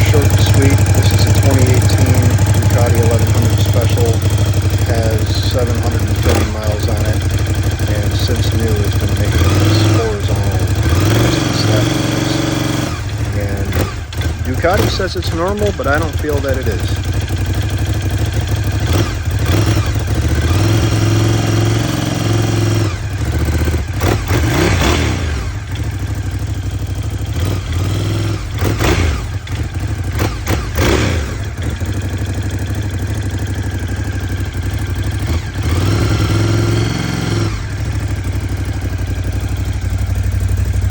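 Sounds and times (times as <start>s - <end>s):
engine slapping noise: 0.0s - 40.9s
motorcycle engine idling and revving: 0.0s - 40.9s.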